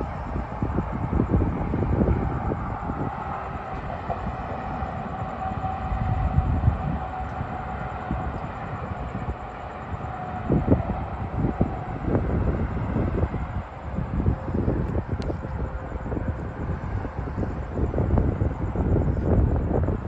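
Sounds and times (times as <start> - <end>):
freight train rumbling past: 0.0 - 20.0
wind gusting on microphone: 0.0 - 20.0.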